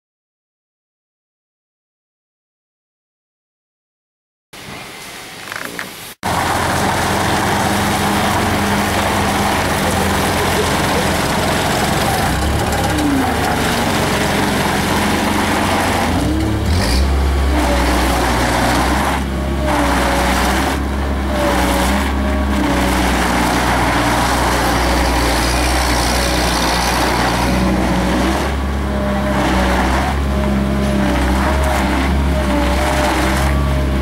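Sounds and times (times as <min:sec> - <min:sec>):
loader engine running hard: 0:06.2 - 0:34.0.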